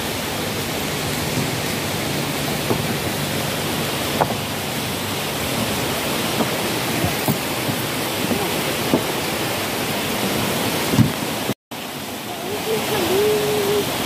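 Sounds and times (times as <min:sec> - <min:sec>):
waterfall and river rushing: 0:00.0 - 0:14.0.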